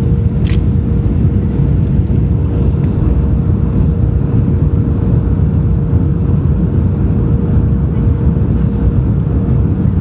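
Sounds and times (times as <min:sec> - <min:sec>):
constant cabin hum: 0:00.0 - 0:10.0
engine and airflow rush: 0:00.0 - 0:10.0.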